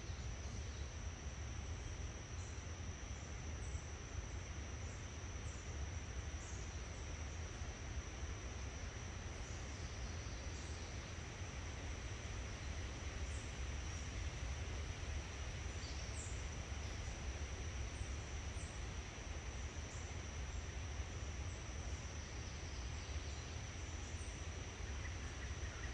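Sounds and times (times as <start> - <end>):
high-pitched insect drone: 0.0 - 25.9
low rumble and hiss: 0.0 - 25.9.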